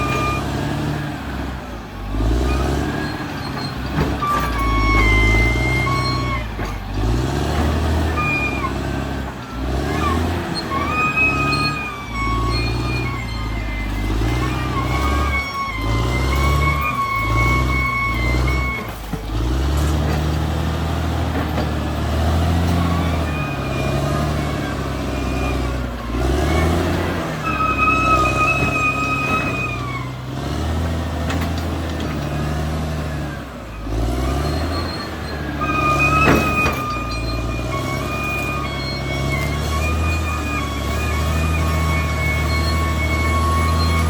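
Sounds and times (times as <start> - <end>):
bulldozer diesel engine working: 0.0 - 44.0.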